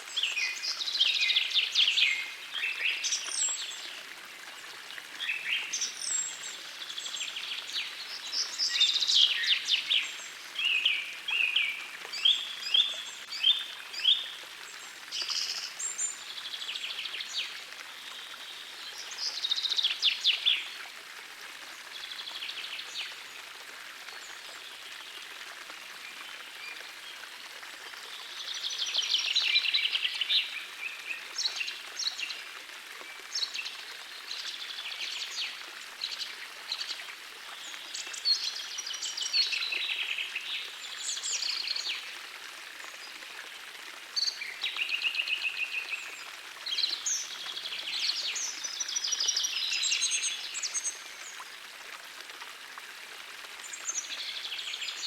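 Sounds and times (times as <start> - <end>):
gentle stream rushing: 0.0 - 55.0.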